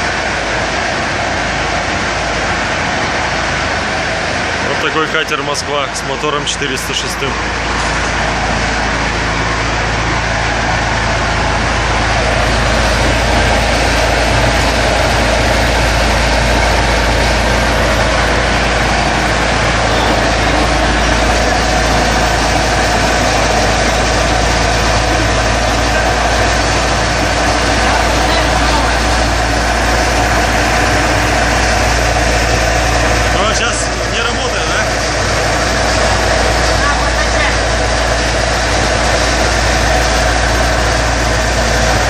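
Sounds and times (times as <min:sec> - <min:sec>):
motor boat engine running: 0:00.0 - 0:42.0.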